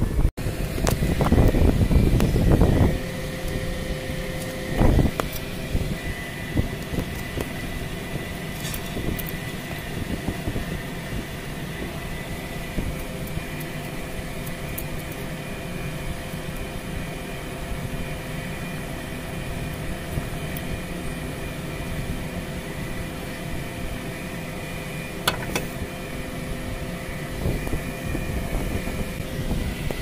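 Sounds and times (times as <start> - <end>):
mechanical hum with whine: 0.0 - 30.0.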